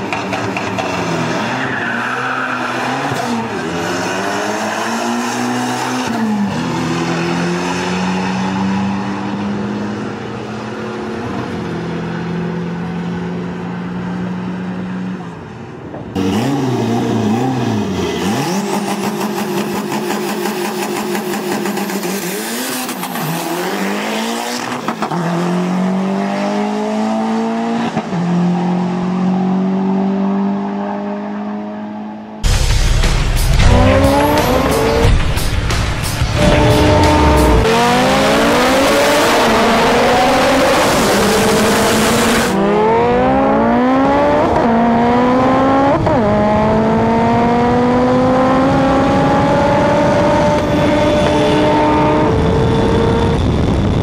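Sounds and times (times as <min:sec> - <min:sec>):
car engine accelerating at full throttle: 0:02.5 - 0:32.5, 0:33.4 - 0:54.0.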